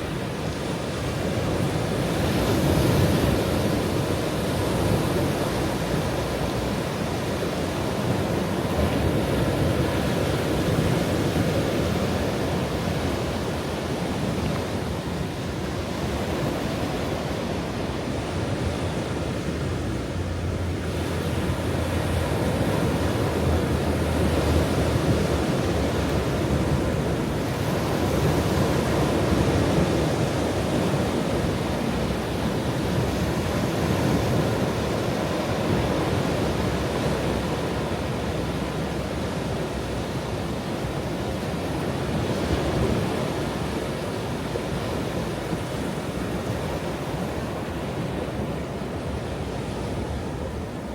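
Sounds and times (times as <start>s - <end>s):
ocean waves washing onto shore: 0.0s - 50.9s.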